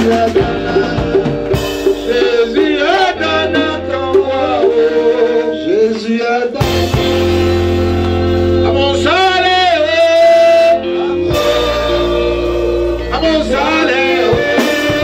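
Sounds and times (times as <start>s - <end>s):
drums: 0.0s - 15.0s
instrumental accompaniment: 0.0s - 15.0s
man singing through microphone: 0.0s - 15.0s.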